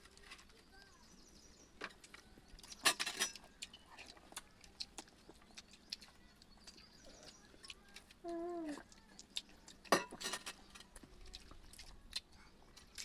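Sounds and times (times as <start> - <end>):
chewing clicks and smacks: 1.9 - 13.0.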